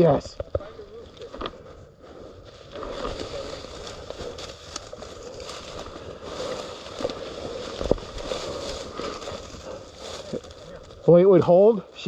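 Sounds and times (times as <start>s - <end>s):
crackles: 0.0s - 12.0s
footsteps through field cover: 0.0s - 12.0s.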